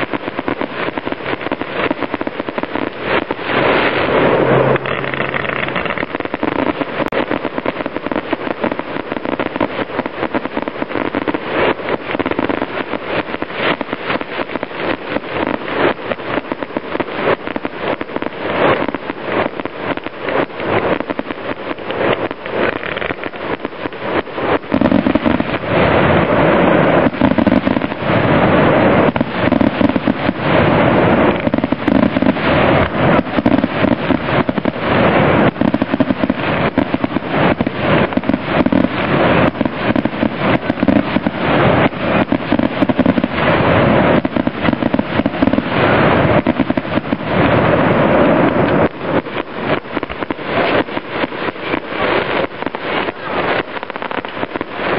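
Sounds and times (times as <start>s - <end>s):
fireworks cracking and banging: 0.0s - 54.9s.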